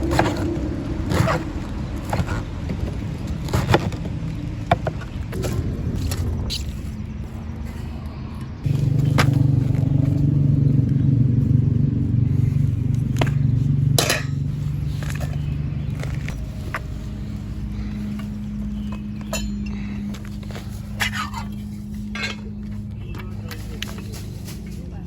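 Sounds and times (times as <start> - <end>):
low mechanical rumble: 0.0 - 25.0.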